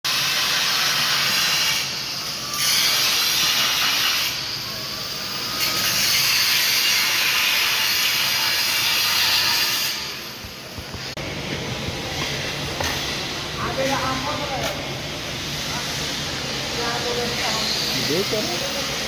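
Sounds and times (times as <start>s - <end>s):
welding arc hissing: 0.1s - 19.0s.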